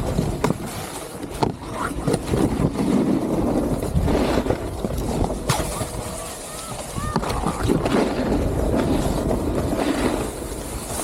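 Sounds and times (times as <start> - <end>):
snowboard scraping over snow: 0.0 - 11.0
wind buffeting microphone: 0.0 - 11.0.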